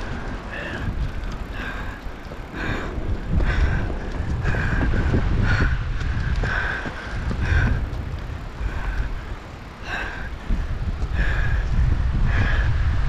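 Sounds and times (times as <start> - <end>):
bike rattle: 0.0 - 12.2
bike tyres rumbling: 0.0 - 13.0
wind: 0.0 - 13.0.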